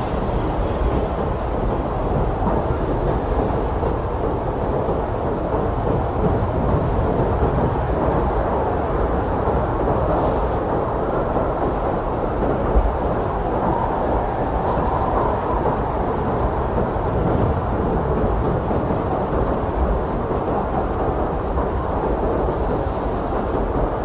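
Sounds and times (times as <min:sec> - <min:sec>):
blizzard wind rushing: 0:00.0 - 0:24.0.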